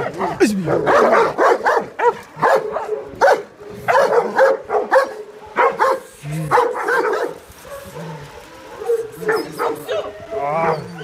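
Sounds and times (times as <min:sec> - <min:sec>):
dogs barking in a fight: 0:00.0 - 0:11.0.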